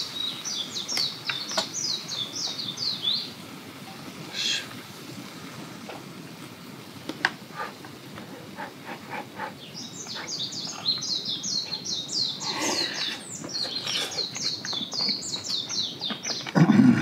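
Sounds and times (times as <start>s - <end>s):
bird chirping: 0.0s - 4.7s, 7.6s - 16.6s.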